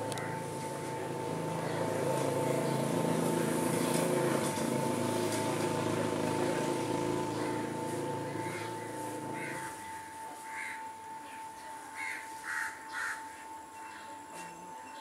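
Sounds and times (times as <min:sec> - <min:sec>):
diesel train engine drone: 0:00.0 - 0:15.0
steady high tone: 0:00.0 - 0:15.0.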